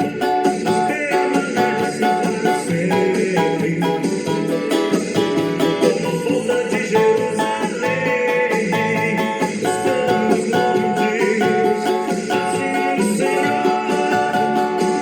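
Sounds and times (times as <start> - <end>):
cavaquinho playing hymn melody: 0.0 - 15.0.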